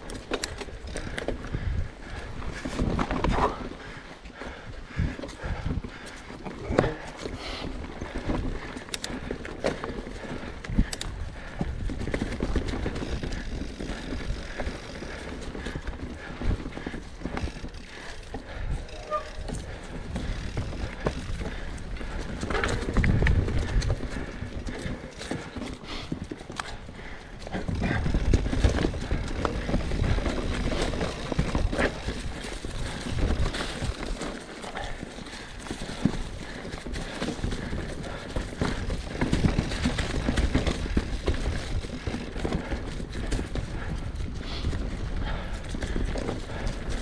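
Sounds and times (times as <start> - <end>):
bike clattering and rattling: 0.0 - 47.0
bike tyres rolling on dirt: 0.0 - 47.0.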